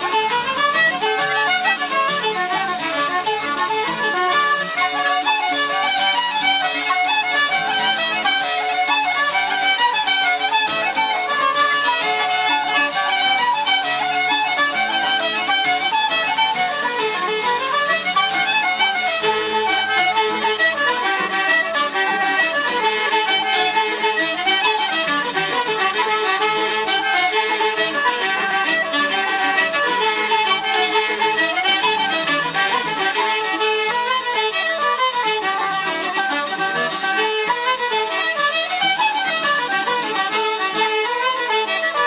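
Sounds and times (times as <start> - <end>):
fiddle melody: 0.0 - 42.0
traditional band playing jigs: 0.0 - 42.0.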